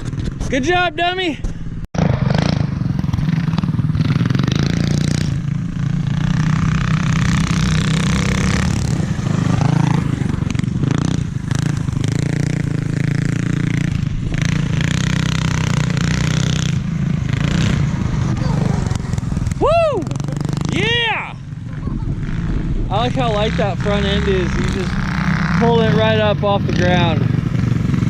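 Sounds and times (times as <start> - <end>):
mini bike engine running: 2.0 - 28.0.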